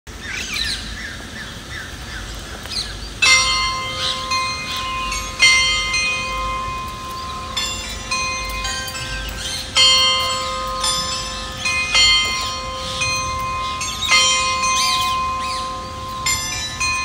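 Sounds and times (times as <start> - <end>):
birds chirping: 0.2 - 17.0
carillon bells playing slow tune: 3.2 - 17.0.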